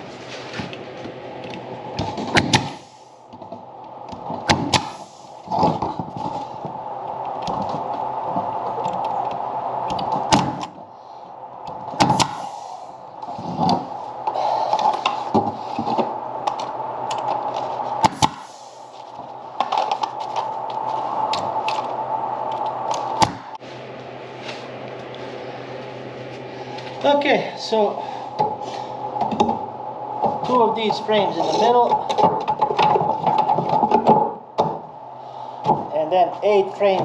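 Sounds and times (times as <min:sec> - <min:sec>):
steady machine hum: 0:00.0 - 0:37.0.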